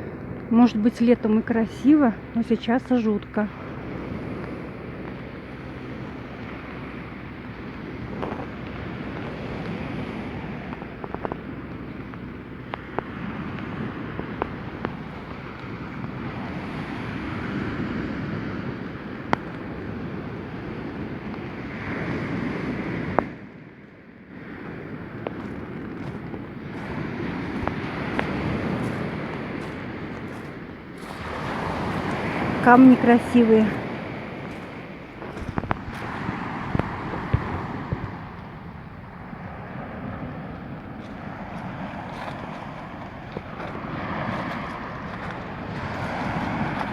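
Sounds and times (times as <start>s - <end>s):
wind buffeting microphone: 0.0s - 46.9s
surf washing onto pebble beach: 3.5s - 23.2s, 24.3s - 46.9s.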